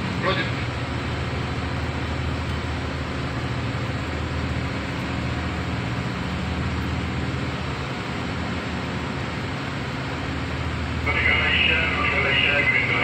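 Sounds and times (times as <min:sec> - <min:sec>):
diesel generators droning: 0:00.0 - 0:13.0.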